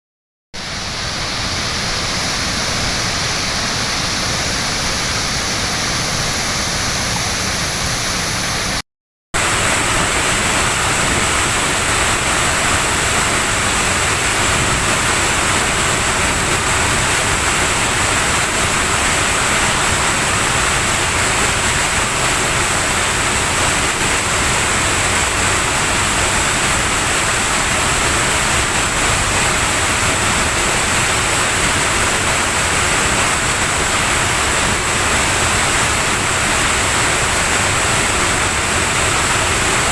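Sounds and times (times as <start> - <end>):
waterfall rushing: 0.6 - 8.8, 9.4 - 39.9.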